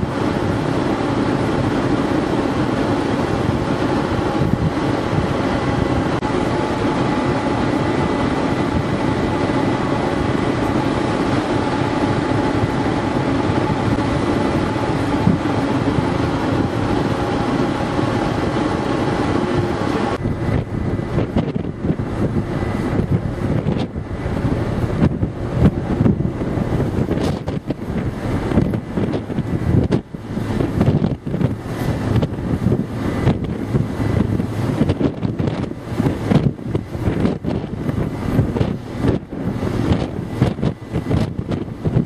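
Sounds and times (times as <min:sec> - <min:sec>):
ferry engine drone: 0:00.0 - 0:42.0
wind on microphone: 0:00.0 - 0:42.0.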